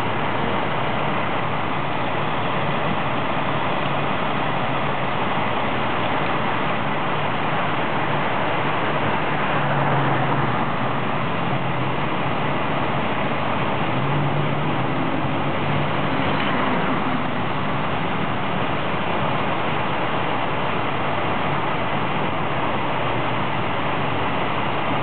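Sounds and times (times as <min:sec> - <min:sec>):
low engine hum: 0:00.0 - 0:25.0
traffic rush: 0:00.0 - 0:25.0.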